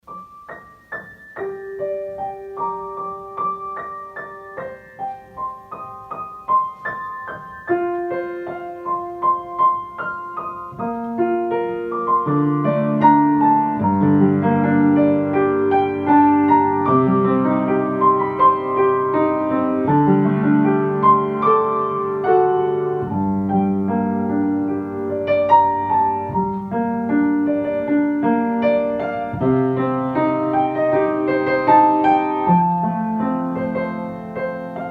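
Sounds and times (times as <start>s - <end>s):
slow mellow piano music: 0.0s - 34.9s.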